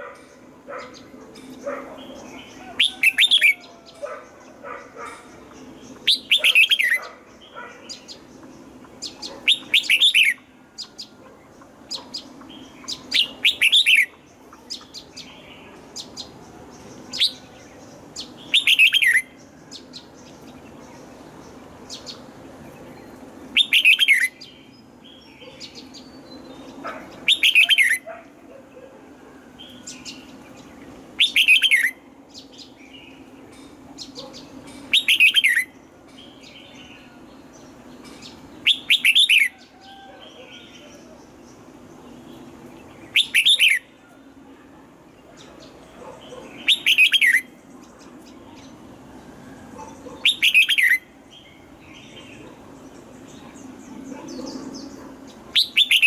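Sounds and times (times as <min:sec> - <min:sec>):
bird singing descending phrases: 0:00.0 - 0:28.1, 0:29.4 - 0:56.0.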